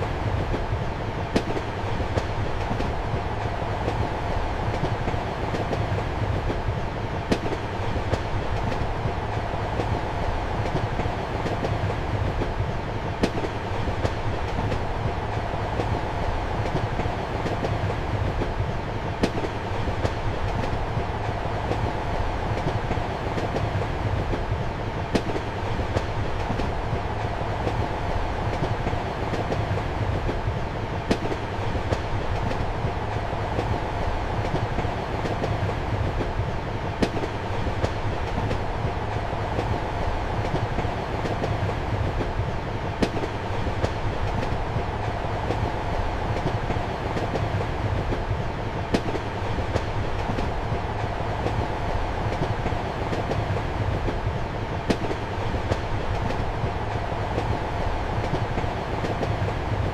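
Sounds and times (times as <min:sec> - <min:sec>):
train rumble and hum: 0:00.0 - 0:59.9.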